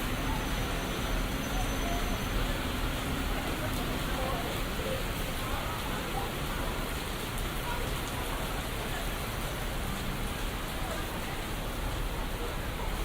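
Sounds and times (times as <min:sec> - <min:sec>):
rain on street: 0:00.0 - 0:13.0.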